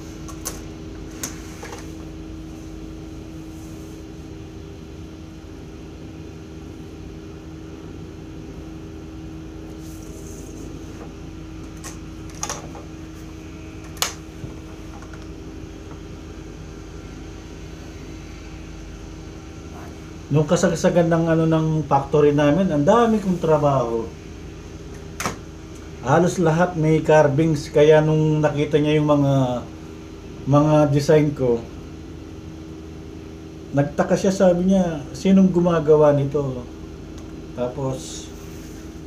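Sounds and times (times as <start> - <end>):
air conditioner humming: 0.0 - 39.0.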